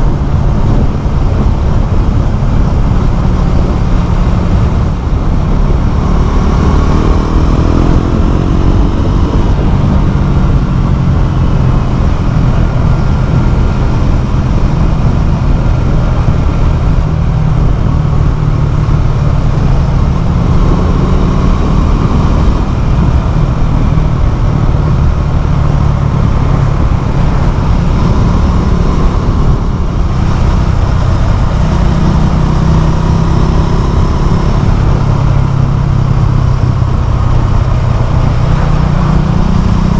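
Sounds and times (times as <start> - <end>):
motorcycle exhaust loud deep: 0.0 - 39.9.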